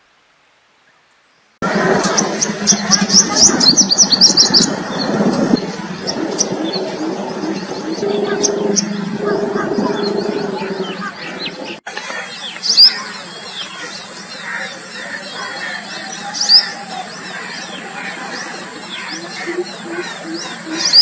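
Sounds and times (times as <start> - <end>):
forest birds chirping: 0.8 - 21.0.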